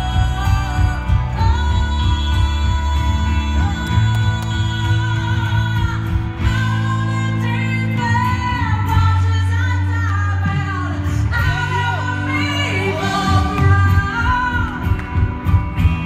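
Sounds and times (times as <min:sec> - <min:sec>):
woman singing into microphone: 0:00.0 - 0:15.6
pop backing music with bass: 0:00.0 - 0:16.0.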